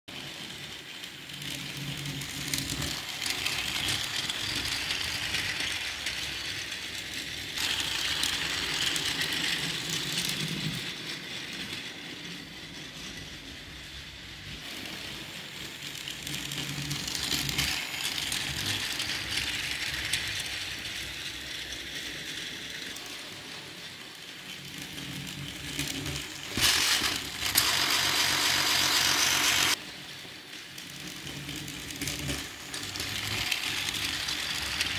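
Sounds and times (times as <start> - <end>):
toy train motor whirring: 0.1 - 34.9
toy train wheels rattling on rails: 0.1 - 34.9.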